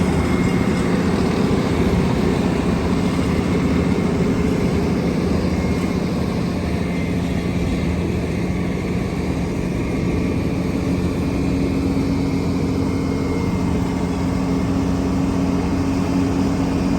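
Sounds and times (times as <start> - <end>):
heavy machinery engines droning: 0.0 - 16.9.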